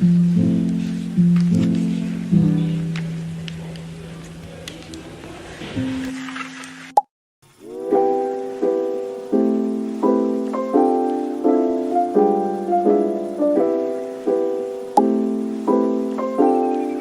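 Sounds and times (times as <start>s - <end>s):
soft piano chords: 0.0s - 4.6s, 5.2s - 6.3s, 7.8s - 17.0s.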